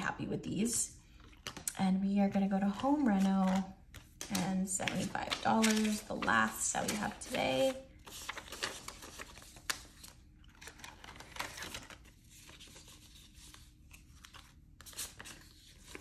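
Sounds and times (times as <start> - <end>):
paper banknotes rustling: 2.4 - 16.0.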